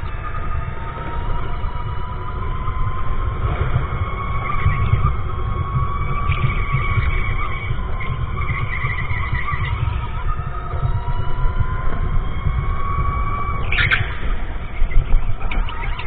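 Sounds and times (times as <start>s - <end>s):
electric motor whine: 0.0s - 16.0s
heavy low rumble: 0.0s - 16.0s.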